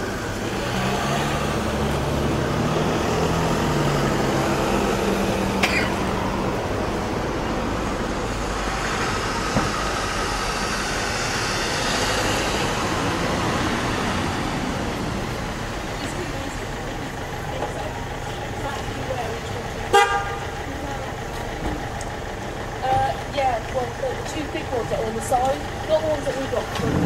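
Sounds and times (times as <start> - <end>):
car engine passing close: 0.0 - 27.0
road noise from passing cars: 0.0 - 27.0.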